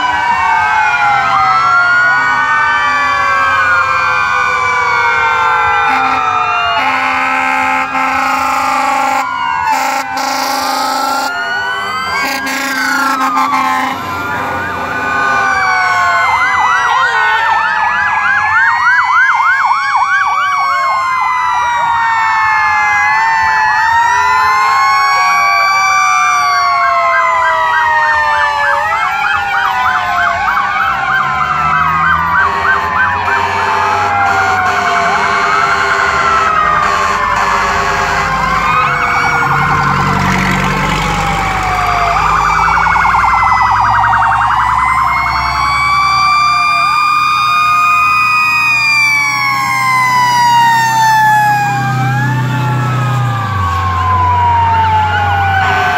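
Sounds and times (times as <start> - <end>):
fire truck sirens wailing: 0.0 - 55.9
truck engine rumble: 0.0 - 55.9.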